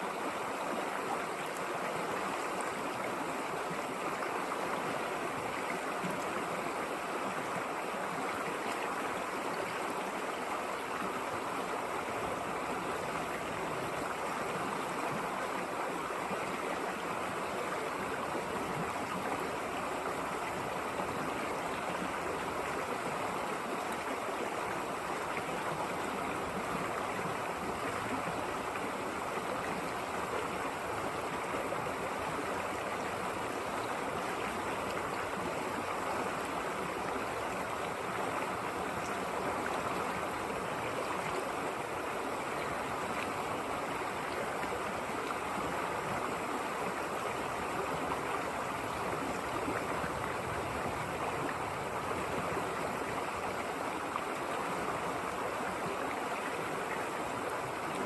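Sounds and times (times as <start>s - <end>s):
river running over rocks: 0.0s - 58.0s.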